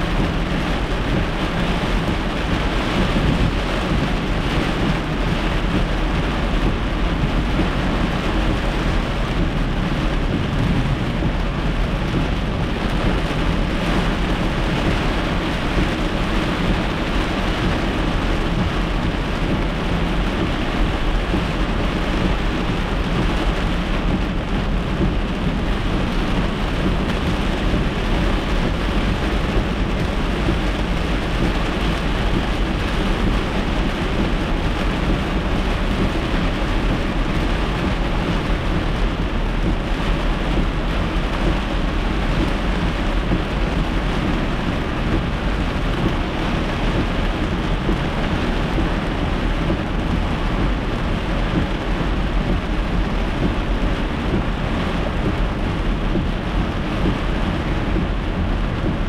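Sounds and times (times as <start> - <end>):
heavy rain on a car: 0.0 - 59.0
tyres rumbling on a wet road: 0.0 - 59.0.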